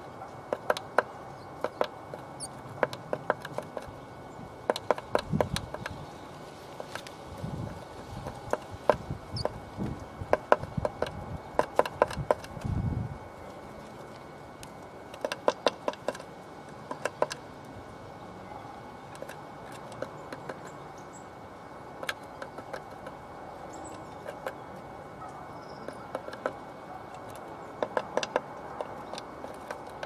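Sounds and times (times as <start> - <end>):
bird pecking on wood: 0.4 - 4.0, 4.6 - 6.0, 6.6 - 12.7, 14.1 - 17.5, 19.1 - 20.8, 21.9 - 30.0.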